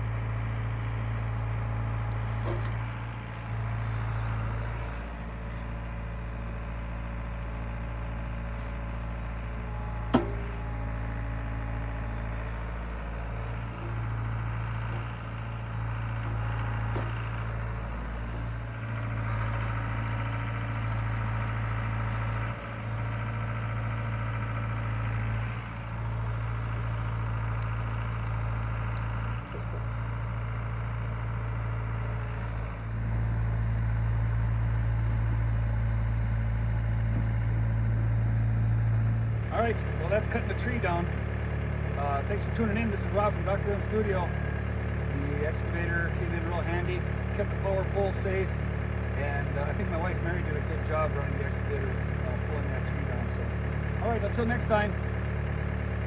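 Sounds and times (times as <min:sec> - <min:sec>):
excavator diesel engine humming: 0:00.0 - 0:56.0.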